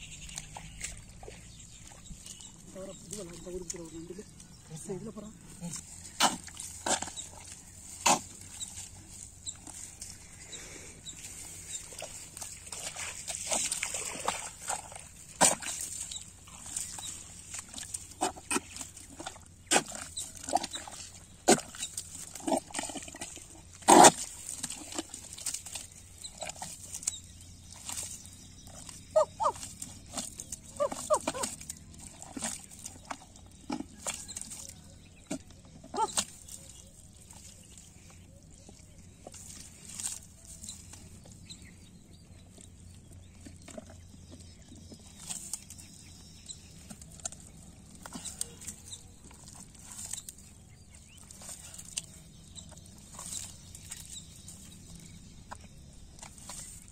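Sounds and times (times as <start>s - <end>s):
hands squelching in wet mud: 0.0s - 56.9s.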